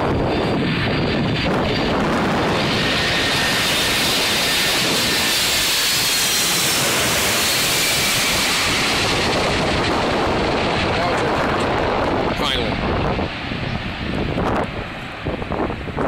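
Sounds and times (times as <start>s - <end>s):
jet engine rumble overhead: 0.0s - 16.0s.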